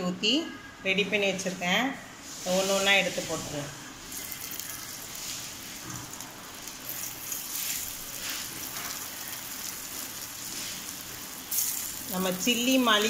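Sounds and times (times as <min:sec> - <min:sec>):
oil sizzling and crackling: 0:02.2 - 0:13.0.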